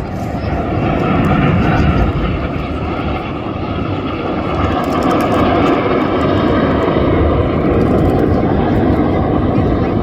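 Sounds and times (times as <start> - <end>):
jets roaring past: 0.0 - 10.0.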